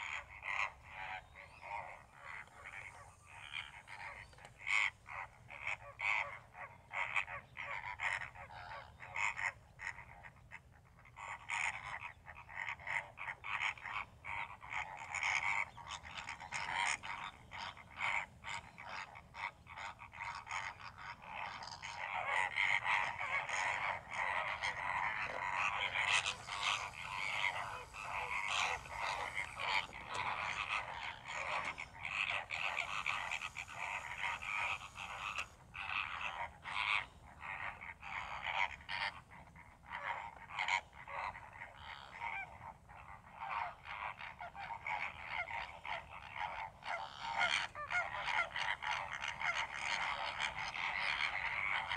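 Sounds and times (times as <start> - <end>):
flock of flamingos calling: 0.0 - 51.9.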